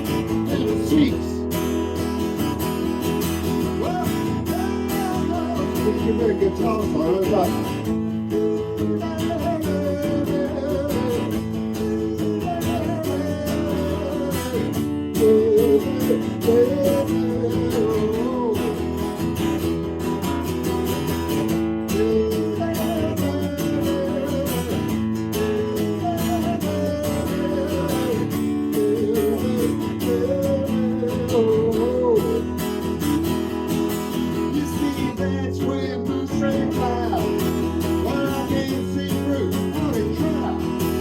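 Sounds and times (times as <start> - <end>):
strummed guitar chords: 0.0 - 41.0.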